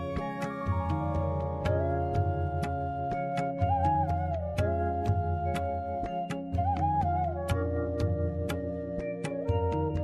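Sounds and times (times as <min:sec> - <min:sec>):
background music with soft beat: 0:00.0 - 0:10.0.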